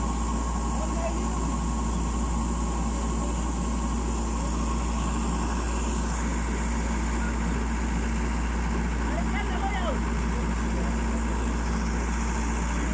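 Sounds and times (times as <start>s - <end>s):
combine harvester drone: 0.0s - 12.9s.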